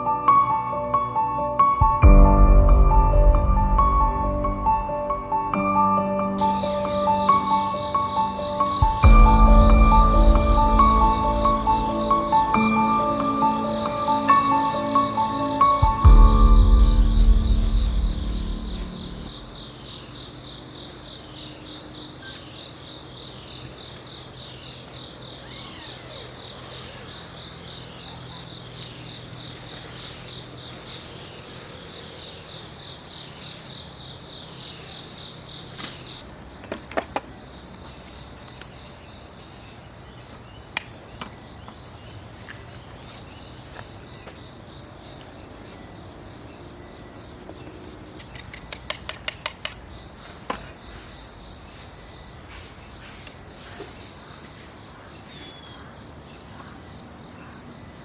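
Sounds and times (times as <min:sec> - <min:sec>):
insects chirring: 0:02.3 - 0:58.0.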